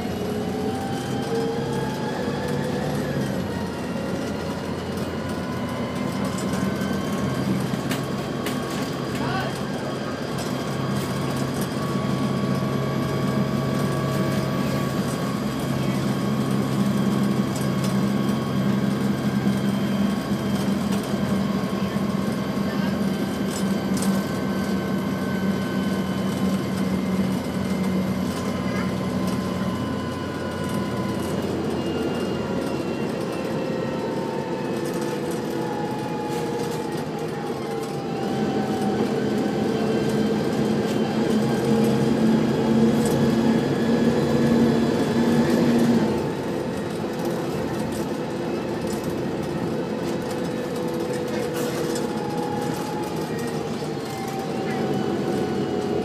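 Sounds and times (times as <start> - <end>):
diesel bus engine running: 0.0 - 56.0
transmission whine: 0.0 - 56.0.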